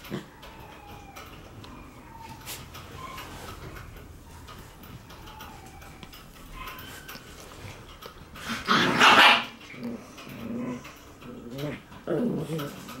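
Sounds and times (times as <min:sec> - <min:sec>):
puppies growling and barking: 0:00.0 - 0:13.0.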